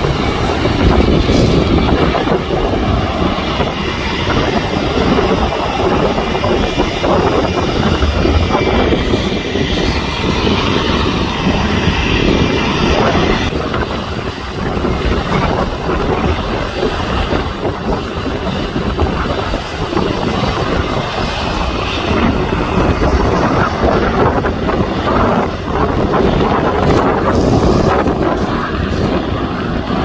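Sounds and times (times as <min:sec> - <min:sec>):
airliner engines rushing: 0:00.0 - 0:30.0.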